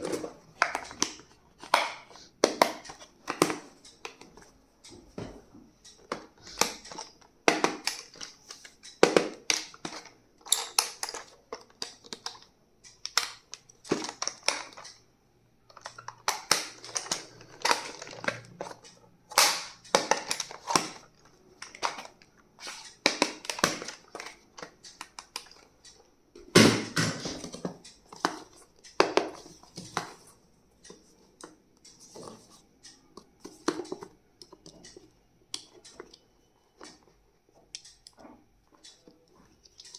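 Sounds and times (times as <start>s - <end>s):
clicks and taps of handled items: 0.0s - 15.0s, 15.7s - 39.9s.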